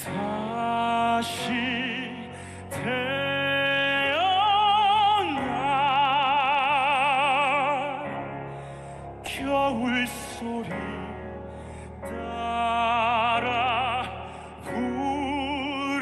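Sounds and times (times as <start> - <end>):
man singing operatically: 0.0 - 8.2, 9.3 - 11.4, 12.1 - 16.0.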